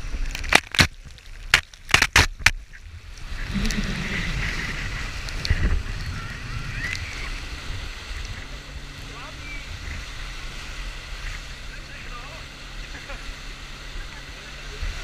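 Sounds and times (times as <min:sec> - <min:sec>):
churning wake: 0:00.0 - 0:15.0
water rushing against boat: 0:00.0 - 0:15.0.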